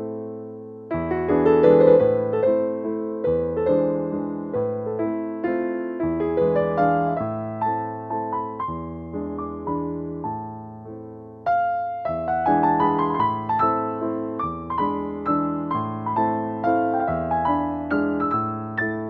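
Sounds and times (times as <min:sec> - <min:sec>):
keyboard melody: 0:00.0 - 0:19.0.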